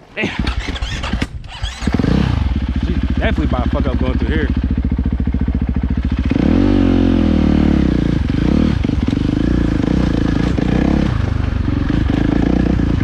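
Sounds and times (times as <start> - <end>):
dirt bike engine revving: 0.2 - 13.0.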